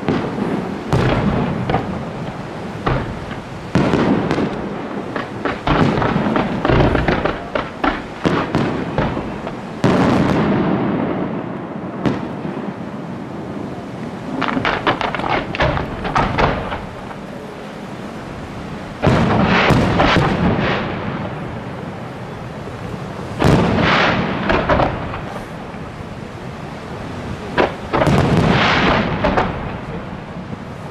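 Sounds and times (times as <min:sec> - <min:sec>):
fireworks bursting: 0:00.0 - 0:30.9.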